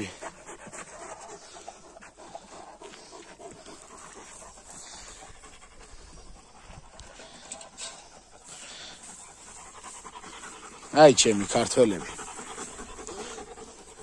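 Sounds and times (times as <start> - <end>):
dogs panting: 0.0 - 14.0.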